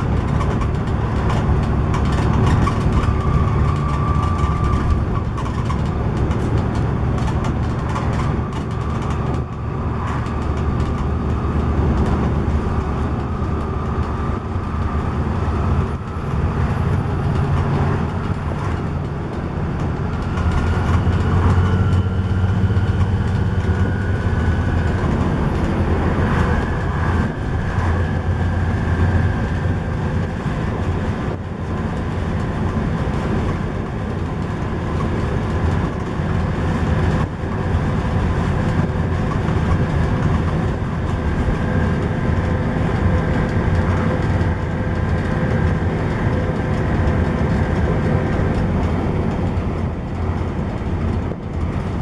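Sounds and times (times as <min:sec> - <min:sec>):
diesel bus engine drone: 0:00.0 - 0:52.0
road noise: 0:00.0 - 0:52.0.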